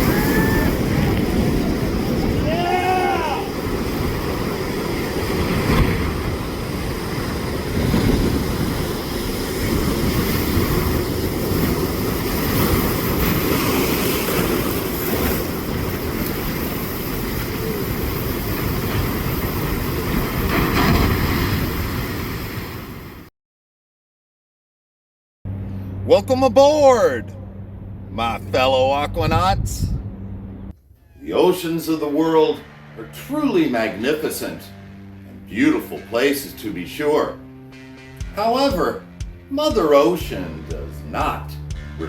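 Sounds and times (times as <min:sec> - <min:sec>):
heavy ocean surf rumbling: 0:00.0 - 0:23.3, 0:28.1 - 0:30.1, 0:31.2 - 0:42.0.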